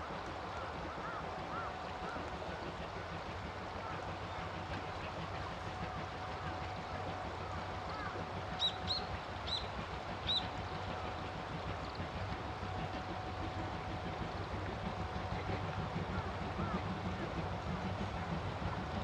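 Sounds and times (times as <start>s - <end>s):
low outdoor rumble and hiss: 0.0s - 19.0s.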